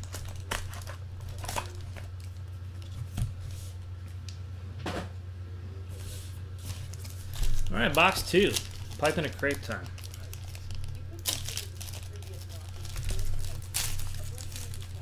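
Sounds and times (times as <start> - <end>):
card packs rustling: 0.0 - 3.8, 6.0 - 15.0
steady low hum: 0.0 - 15.0.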